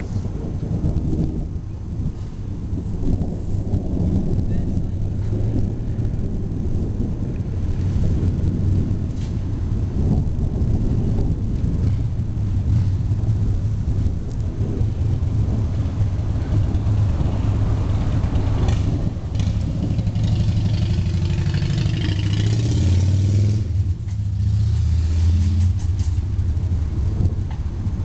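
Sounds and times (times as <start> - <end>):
rolling thunder: 0.0 - 28.0.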